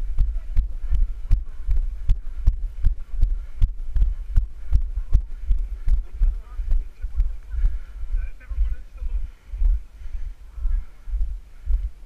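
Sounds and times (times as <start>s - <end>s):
running footsteps: 0.0s - 12.0s
wind rumble on microphone: 0.0s - 12.0s.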